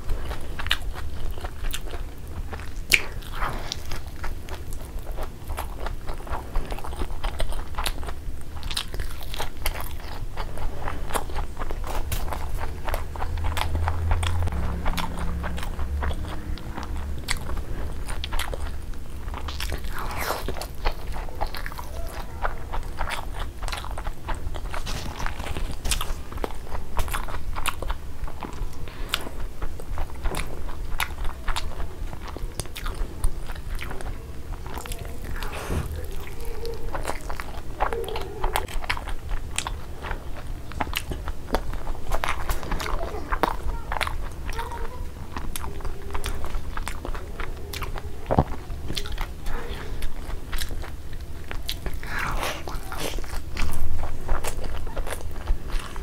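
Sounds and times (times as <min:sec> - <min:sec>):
crunchy chewing mouth sounds: 0:00.0 - 0:56.0
low steady hum: 0:00.0 - 0:56.0.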